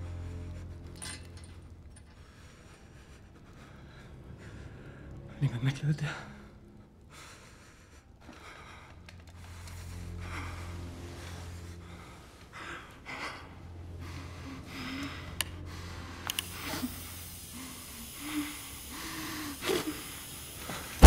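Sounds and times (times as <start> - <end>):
man breathing hard: 2.0 - 5.4, 7.1 - 21.0.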